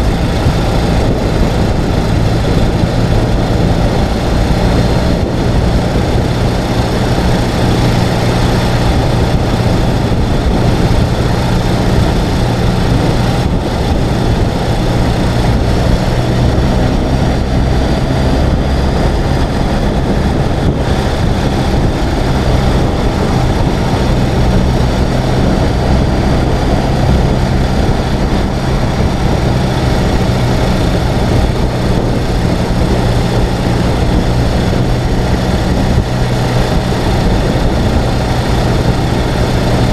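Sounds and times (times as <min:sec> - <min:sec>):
motorcycle engine running: 0:00.0 - 0:39.9
rush of noise: 0:00.0 - 0:39.9.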